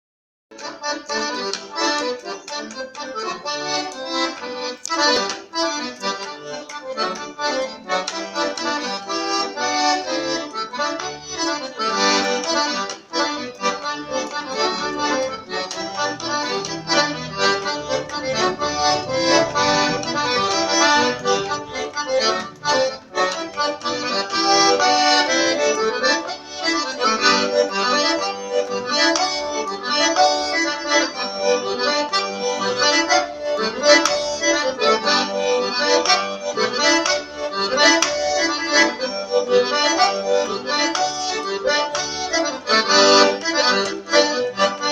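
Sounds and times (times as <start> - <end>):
accordion playing lively tune: 0.5 - 44.9.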